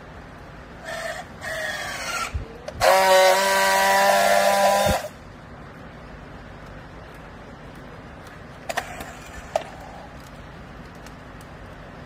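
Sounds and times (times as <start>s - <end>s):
high steady whine: 0.0s - 12.0s.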